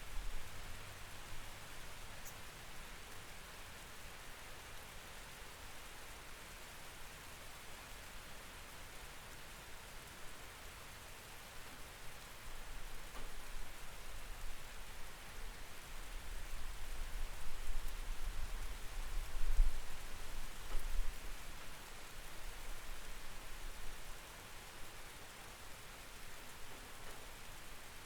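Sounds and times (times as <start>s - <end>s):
rain patter: 0.0s - 28.0s.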